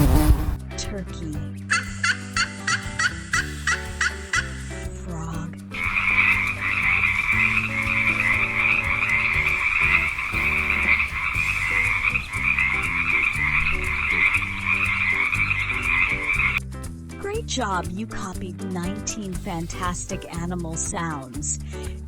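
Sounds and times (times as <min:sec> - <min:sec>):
light background music: 0:00.2 - 0:22.0.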